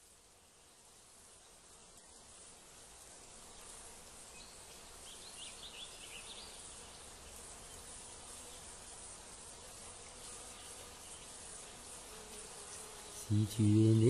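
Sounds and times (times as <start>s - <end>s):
faint insect buzzing: 0.0s - 14.0s.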